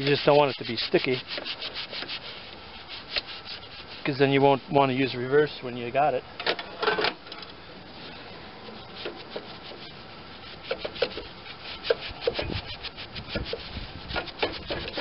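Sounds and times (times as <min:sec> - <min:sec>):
cloth rag scrubbing rusty metal: 0:00.0 - 0:05.1, 0:08.0 - 0:15.0.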